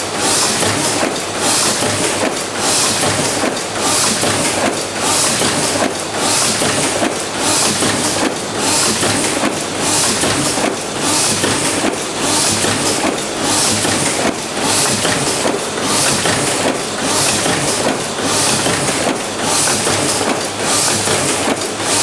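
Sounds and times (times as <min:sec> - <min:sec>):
die-cutting machine clattering: 0:00.1 - 0:22.0.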